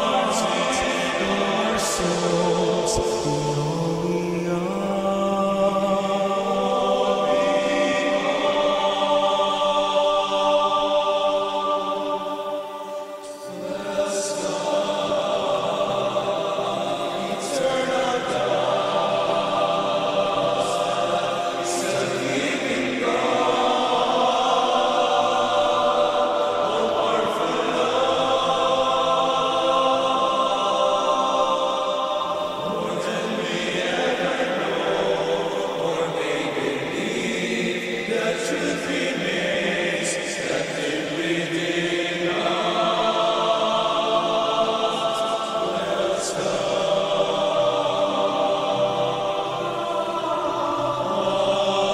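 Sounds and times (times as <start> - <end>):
choir singing a hymn: 0.0 - 51.9.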